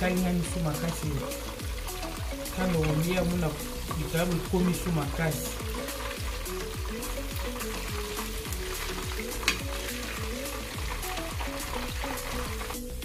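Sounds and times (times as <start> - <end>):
background music with beat: 0.0 - 13.0
fish sizzling in hot oil: 0.0 - 13.0.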